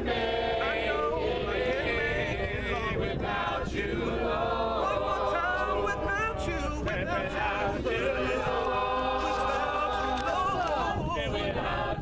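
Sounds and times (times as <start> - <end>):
group singing a hymn a cappella: 0.0 - 12.0.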